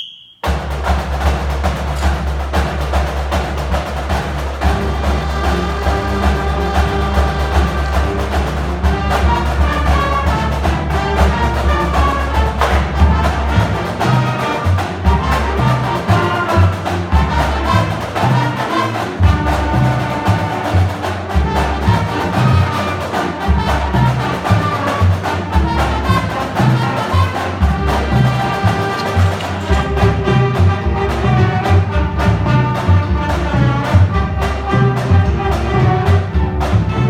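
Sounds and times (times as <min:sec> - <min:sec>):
band playing brass melody: 0:00.0 - 0:37.0
drums keeping a beat: 0:00.4 - 0:37.0.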